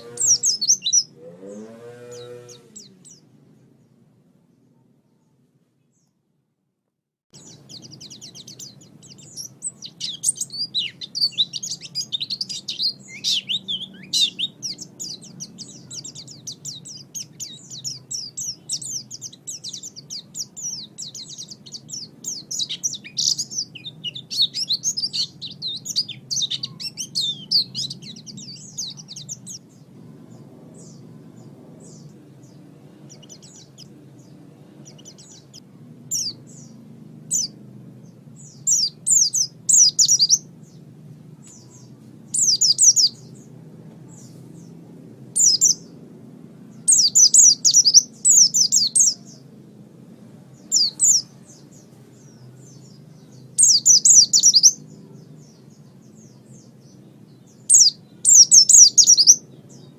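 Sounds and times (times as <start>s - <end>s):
bird twittering warble: 0.0s - 3.3s, 7.4s - 40.8s, 41.4s - 43.5s, 45.4s - 46.0s, 46.8s - 49.4s, 52.6s - 59.9s
faint low hum: 7.4s - 59.9s.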